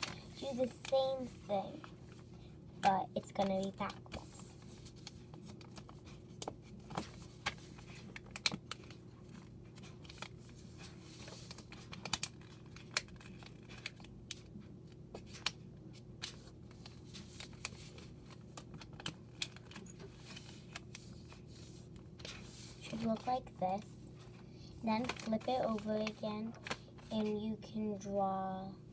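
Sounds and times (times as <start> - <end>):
paper crinkling and creasing: 3.3 - 23.5, 24.1 - 27.3.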